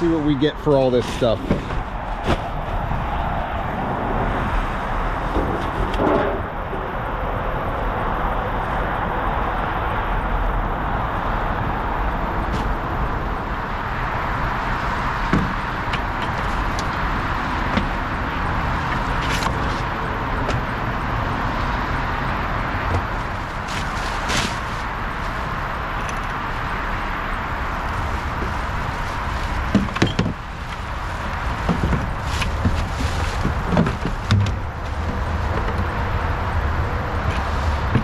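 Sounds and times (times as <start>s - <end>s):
vehicle road noise: 0.0s - 38.0s.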